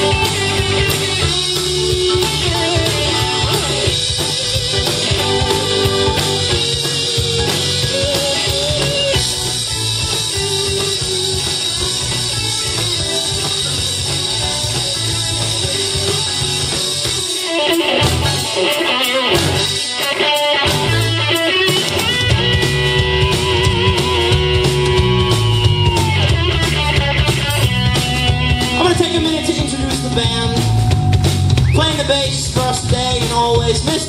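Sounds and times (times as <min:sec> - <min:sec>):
bass guitar: 0:00.0 - 0:34.0
drum kit: 0:00.0 - 0:34.0
electric guitars: 0:00.0 - 0:34.0.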